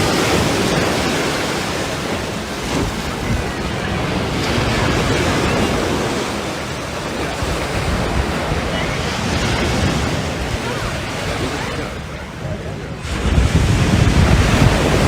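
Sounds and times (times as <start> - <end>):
surf washing onto beach: 0.0 - 15.0
wind on microphone: 0.0 - 15.0.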